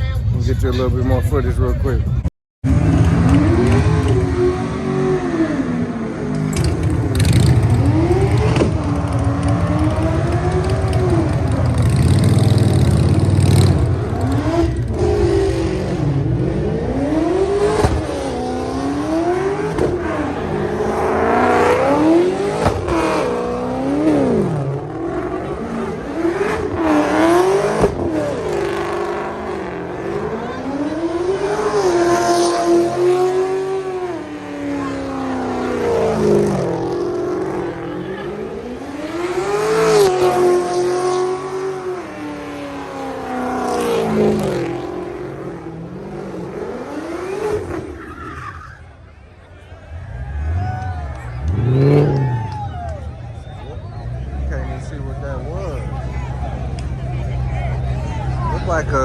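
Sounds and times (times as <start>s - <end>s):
car engine revving hard: 2.6s - 48.1s, 50.1s - 52.6s.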